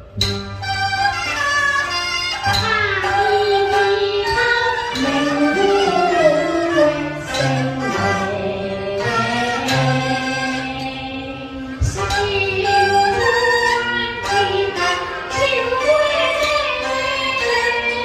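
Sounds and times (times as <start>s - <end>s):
bowed fiddle melody: 0.0s - 18.0s
low steady accompaniment: 0.0s - 18.0s.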